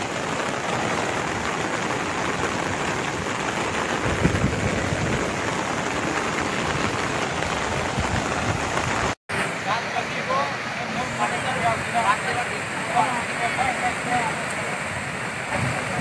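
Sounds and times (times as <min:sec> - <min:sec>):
flood torrent rushing: 0:00.0 - 0:16.0
heavy rain: 0:00.0 - 0:16.0.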